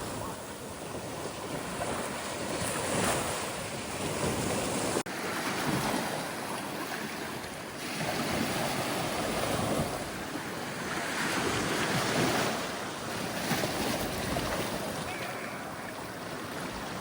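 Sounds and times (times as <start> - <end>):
ocean waves breaking: 0.0 - 17.0
wind on microphone: 0.0 - 17.0.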